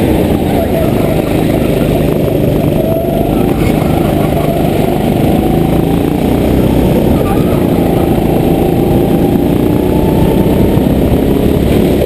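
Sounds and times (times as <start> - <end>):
go-kart engine drone: 0.0 - 12.0.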